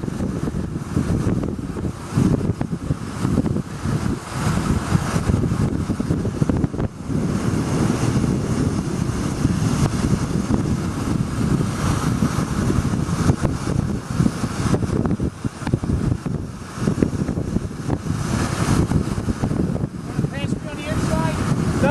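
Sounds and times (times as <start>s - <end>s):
golf cart running and road noise: 0.0s - 21.9s
wind buffeting microphone: 0.0s - 21.9s.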